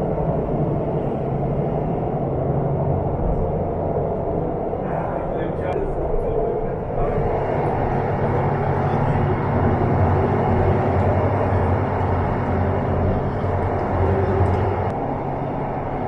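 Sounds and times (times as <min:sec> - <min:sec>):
low hum: 0:00.0 - 0:16.0
train wheels rumbling: 0:00.0 - 0:16.0.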